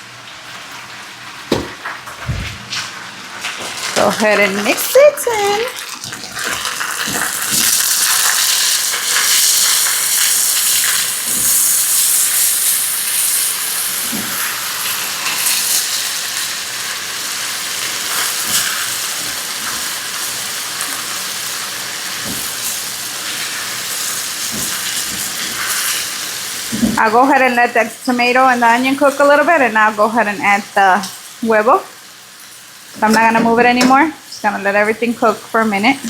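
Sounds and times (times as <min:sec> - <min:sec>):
vegetables sizzling in frying pan: 0:00.0 - 0:36.0.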